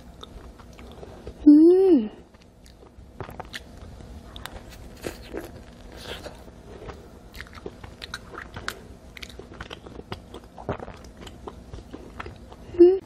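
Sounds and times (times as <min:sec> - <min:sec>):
biting and chewing doughnut: 0:00.0 - 0:01.4, 0:02.2 - 0:12.8.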